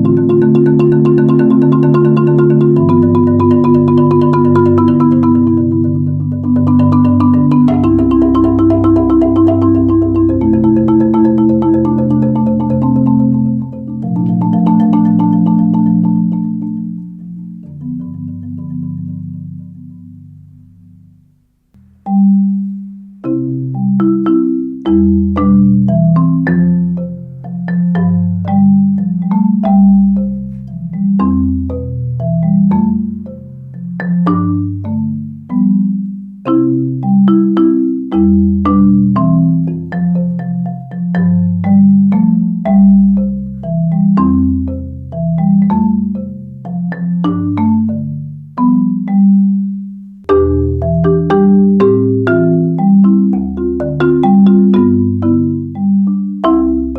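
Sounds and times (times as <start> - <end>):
marimba playing: 0.0 - 21.2, 21.8 - 56.9.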